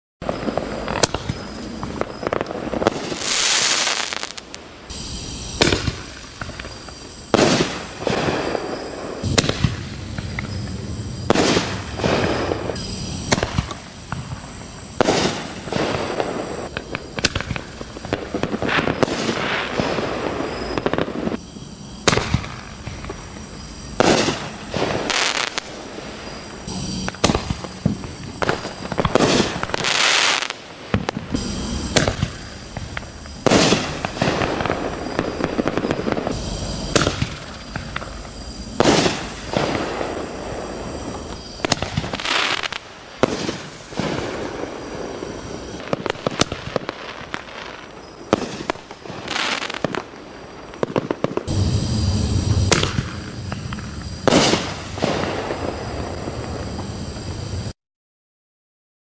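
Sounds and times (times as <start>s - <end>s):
firework crackling: 0.2s - 57.7s.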